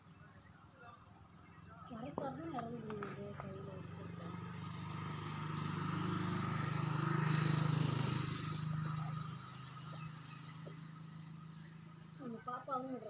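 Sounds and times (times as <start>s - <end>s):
vehicle engine passing by: 2.1s - 13.0s.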